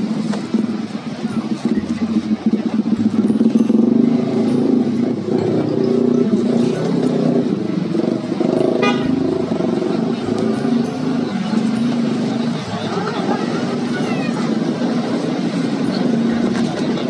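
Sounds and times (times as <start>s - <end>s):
vehicle engines in traffic: 0.0s - 17.0s.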